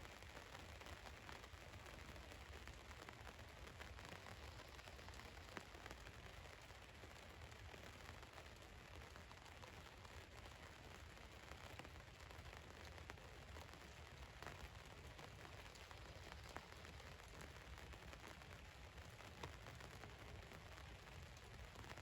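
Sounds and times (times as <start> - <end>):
rain hissing on van roof: 0.2 - 22.0.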